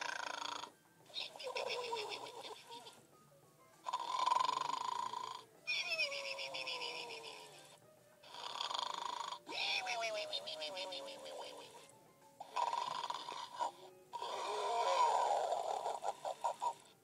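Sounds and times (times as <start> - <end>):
toy pig snoring whistle: 0.0 - 1.6, 3.9 - 17.0.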